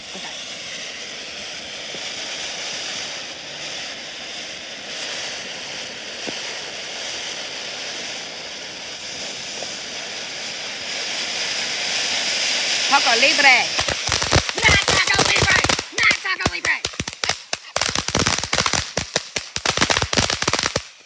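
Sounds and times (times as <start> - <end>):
firework hissing sparks: 0.0 - 21.0.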